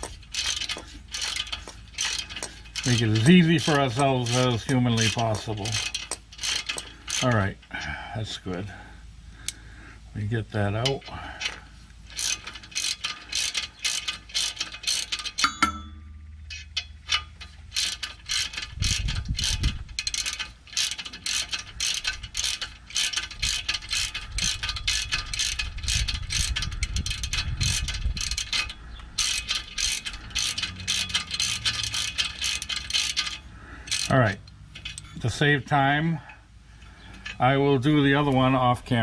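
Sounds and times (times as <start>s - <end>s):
hand ratchet clicking: 0.0s - 8.0s, 10.8s - 15.6s, 16.5s - 35.2s.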